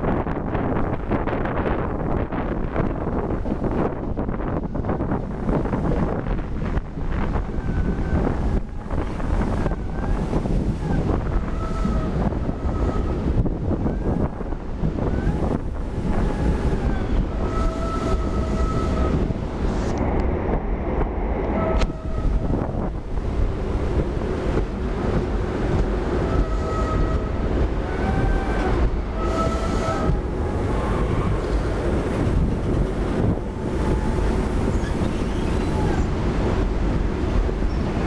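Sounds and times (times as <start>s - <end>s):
train wheels rumbling on rail: 0.0s - 38.0s
wind buffeting microphone: 0.0s - 38.0s.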